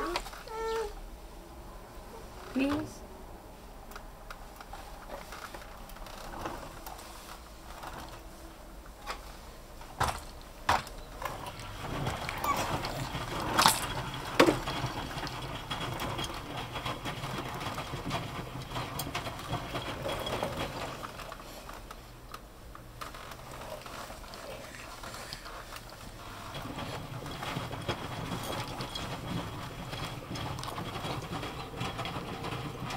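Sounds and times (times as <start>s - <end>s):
washing machine running: 0.0s - 32.9s.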